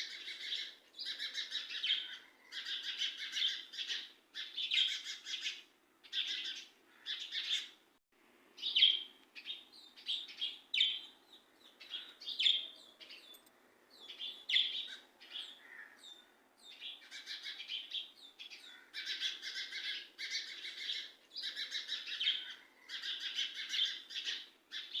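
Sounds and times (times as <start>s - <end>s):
birds chirping: 0.0s - 7.8s, 8.6s - 25.0s.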